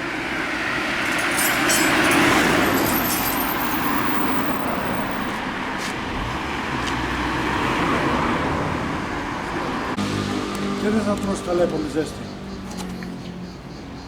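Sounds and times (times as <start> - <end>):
passing motor vehicle: 0.0 - 14.0.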